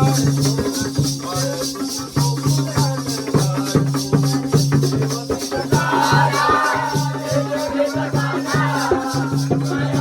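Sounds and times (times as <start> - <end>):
drum beating steady rhythm: 0.0 - 10.0
jingling metal percussion: 0.0 - 10.0.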